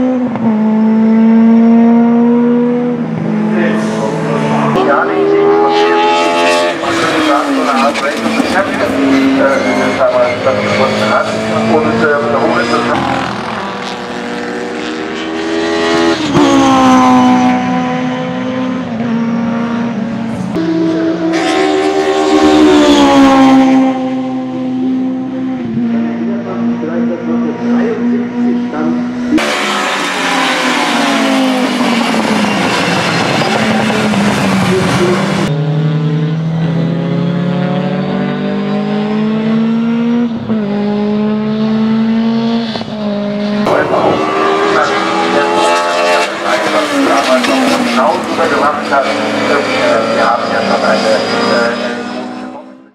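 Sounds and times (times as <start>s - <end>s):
race car engine at speed: 0.0s - 52.9s.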